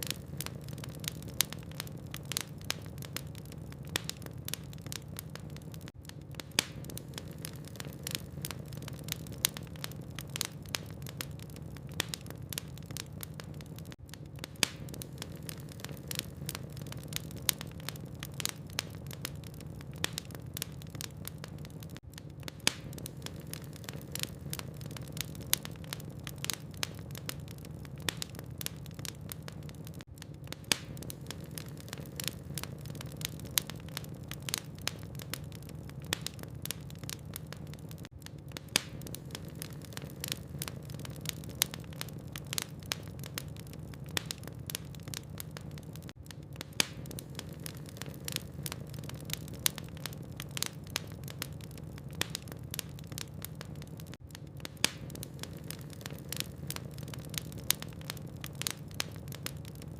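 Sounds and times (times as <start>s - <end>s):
fire crackling and popping: 0.0s - 59.9s
low fire rumble: 0.0s - 59.9s.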